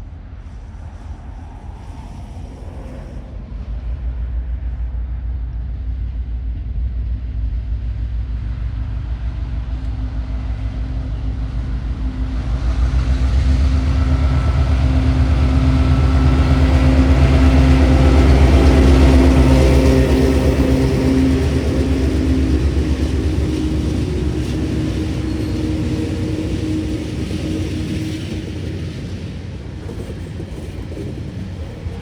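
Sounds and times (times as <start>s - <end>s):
diesel locomotive engines: 0.0s - 32.0s.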